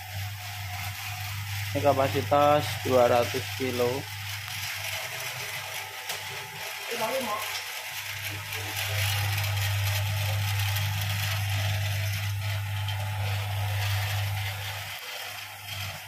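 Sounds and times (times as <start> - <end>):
feed mixer motor hum: 0.0 - 16.0
mixer rattling hiss: 0.0 - 16.0.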